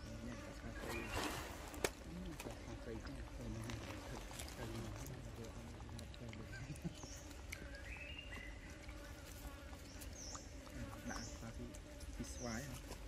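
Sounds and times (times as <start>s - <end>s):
birds chirping: 0.0s - 13.0s
insect hum: 0.0s - 13.0s.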